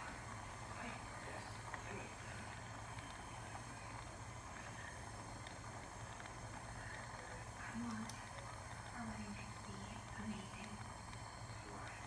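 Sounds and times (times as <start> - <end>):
low electrical hum: 0.0 - 12.0
soldering torch flame hissing: 0.0 - 12.0.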